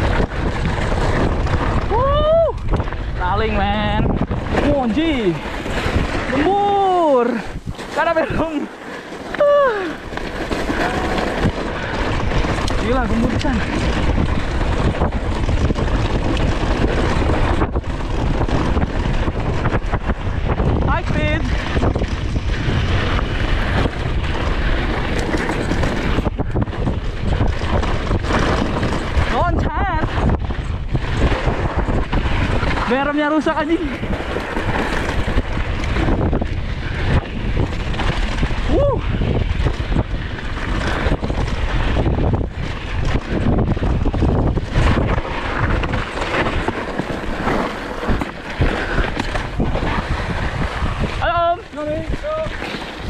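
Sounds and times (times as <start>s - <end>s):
bike knocking and rattling: 0.0s - 53.0s
tyres rumbling on dirt: 0.0s - 53.0s
wind buffeting microphone: 0.0s - 53.0s.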